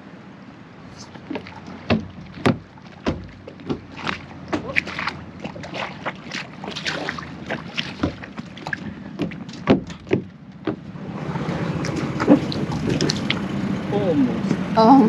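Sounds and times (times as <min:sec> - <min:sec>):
water splashing: 0:00.8 - 0:15.0
knocks and clunks on a boat: 0:01.0 - 0:15.0.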